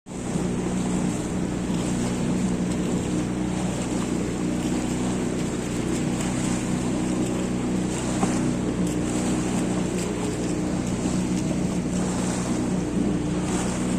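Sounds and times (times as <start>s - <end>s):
outboard motor running: 0.1s - 13.9s
water rushing: 0.1s - 13.9s
wind: 0.1s - 13.9s.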